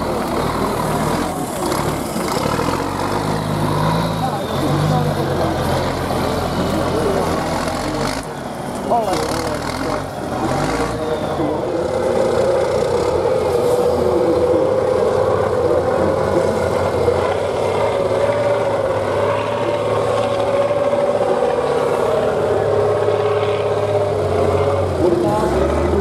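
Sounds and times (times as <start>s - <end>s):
truck engine running loudly: 0.0s - 26.0s.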